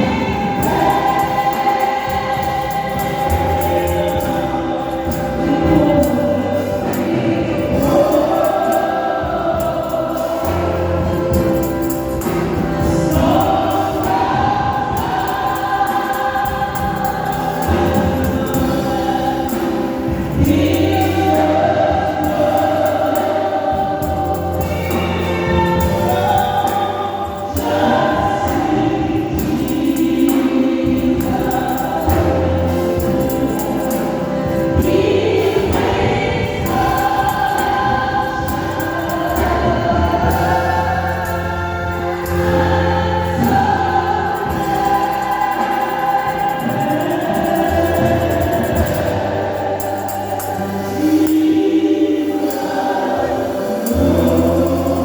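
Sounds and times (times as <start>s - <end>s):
choir singing gospel: 0.0s - 55.0s
instrumental accompaniment with bass: 0.0s - 55.0s.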